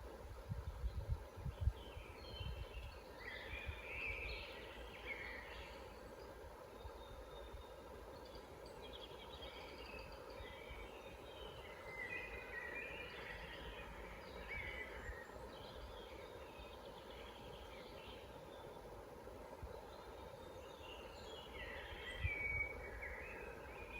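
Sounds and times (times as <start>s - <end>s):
songbirds chirping and singing: 1.6s - 18.9s, 19.6s - 23.9s.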